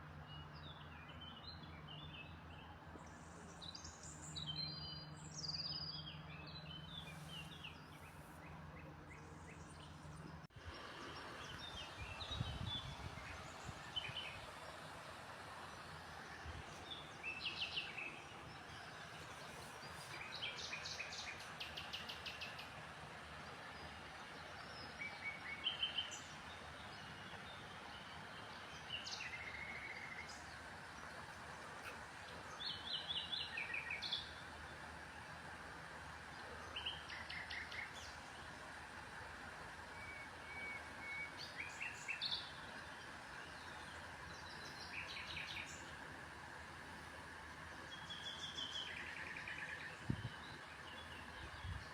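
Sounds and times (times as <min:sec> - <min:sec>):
small birds chirping: 0:00.3 - 0:14.8, 0:15.7 - 0:35.3, 0:39.8 - 0:51.9.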